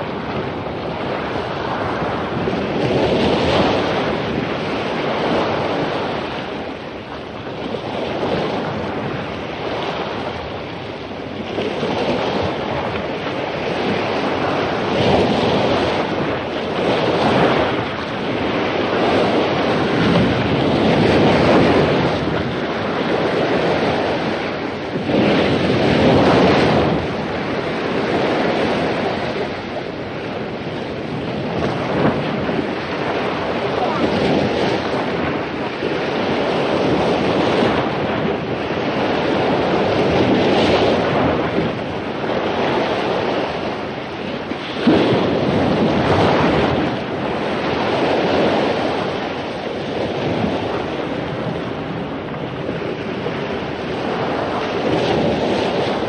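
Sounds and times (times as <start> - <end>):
waves crashing on beach: 0.0 - 56.0
wind noise on microphone: 0.0 - 56.0.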